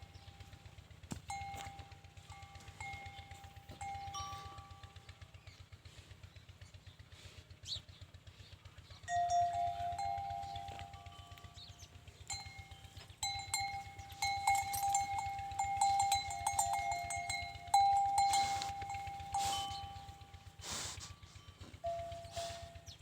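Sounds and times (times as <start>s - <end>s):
cattle bells clanking: 0.0s - 5.3s, 9.0s - 23.0s.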